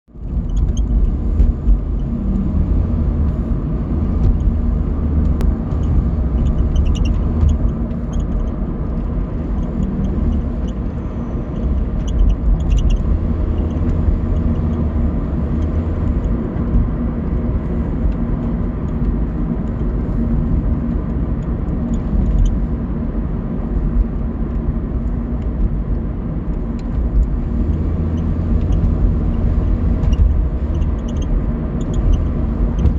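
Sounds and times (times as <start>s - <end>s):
car engine rumbling: 0.0s - 32.9s.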